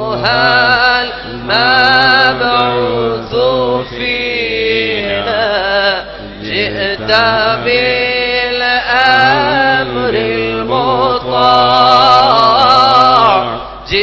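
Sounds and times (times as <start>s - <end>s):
person singing devotional chant: 0.0s - 14.0s.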